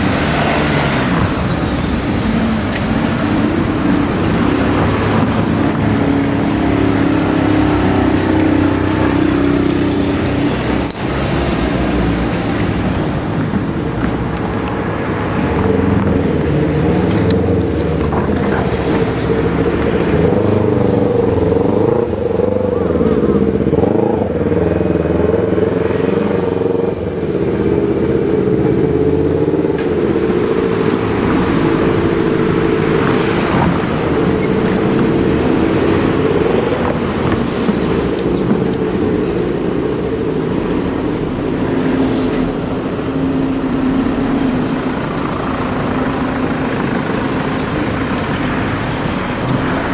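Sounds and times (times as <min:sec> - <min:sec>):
vehicle motor humming: 0:00.0 - 0:49.9.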